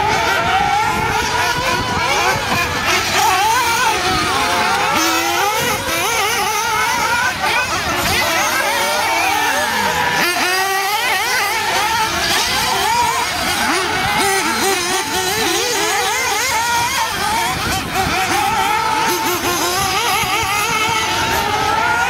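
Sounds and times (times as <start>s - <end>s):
rc buggy engines whining: 0.0s - 22.0s.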